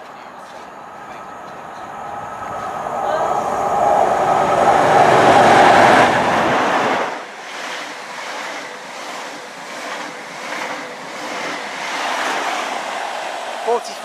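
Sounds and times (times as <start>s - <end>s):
train coaches rushing past: 0.0s - 14.0s
train engine: 0.0s - 14.0s.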